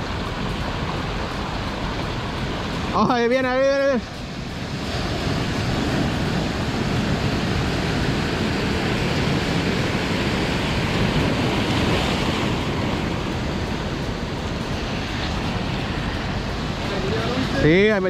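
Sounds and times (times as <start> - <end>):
ocean surf on sandy beach: 0.0 - 18.0.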